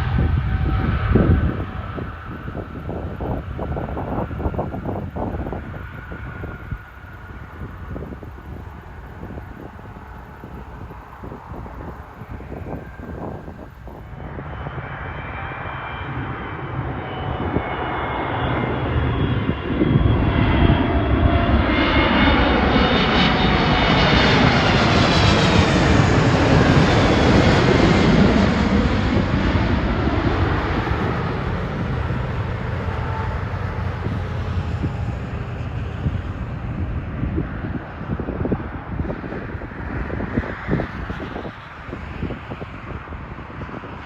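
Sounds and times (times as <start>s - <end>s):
aircraft engines passing: 0.0s - 44.0s.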